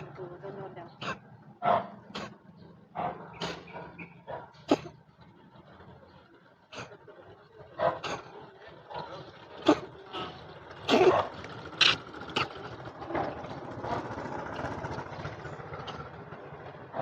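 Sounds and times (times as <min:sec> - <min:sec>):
street traffic passing: 0:00.0 - 0:17.0.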